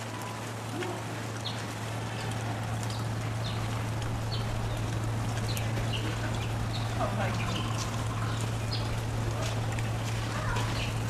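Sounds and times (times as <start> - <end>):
steady low hum: 0.6 - 11.0.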